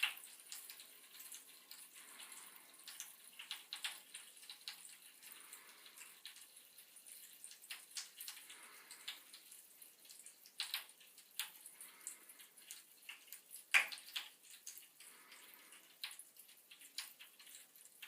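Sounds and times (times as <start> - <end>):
bath crackles fizzing in water: 0.0 - 18.0.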